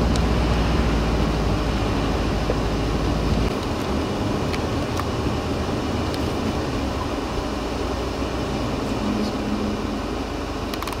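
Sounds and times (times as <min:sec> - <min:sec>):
traffic rumble: 0:00.0 - 0:11.0
vehicle driving on snowy road: 0:00.0 - 0:11.0
wind: 0:00.0 - 0:11.0.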